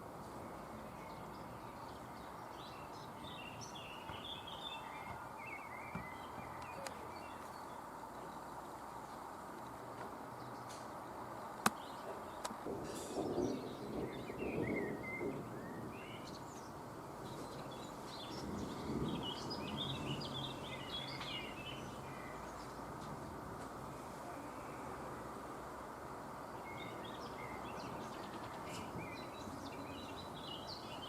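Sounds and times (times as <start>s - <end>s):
birds chirping: 0.6s - 22.9s, 26.3s - 31.0s.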